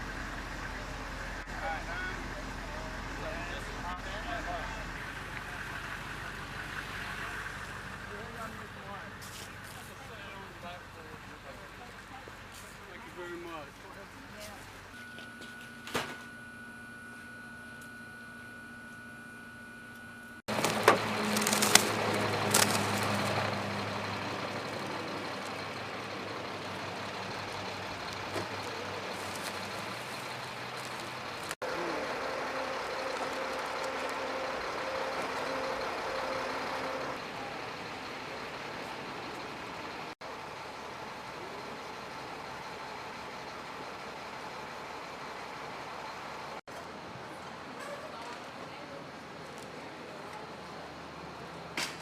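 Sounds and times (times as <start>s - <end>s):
heavy vehicle engines running: 0.0s - 52.0s.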